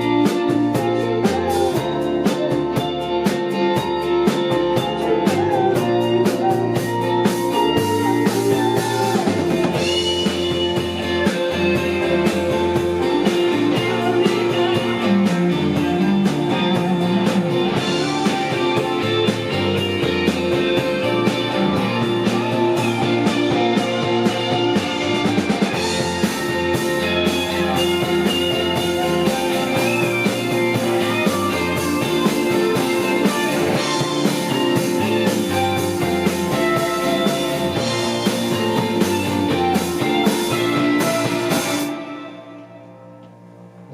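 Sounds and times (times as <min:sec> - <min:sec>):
rock band playing live: 0:00.0 - 0:43.2.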